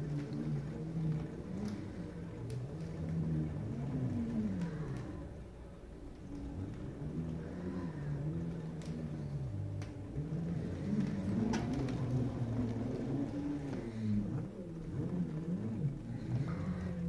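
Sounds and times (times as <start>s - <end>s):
hoverboard motors humming: 0.0s - 17.0s.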